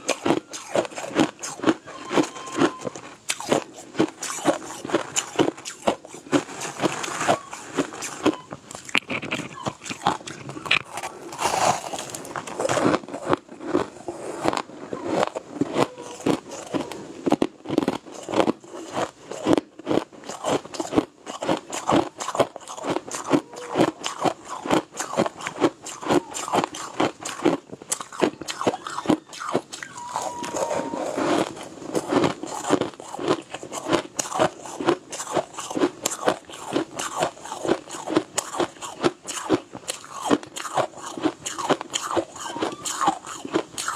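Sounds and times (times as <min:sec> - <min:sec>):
person crunching ice: 0:03.3 - 0:43.9.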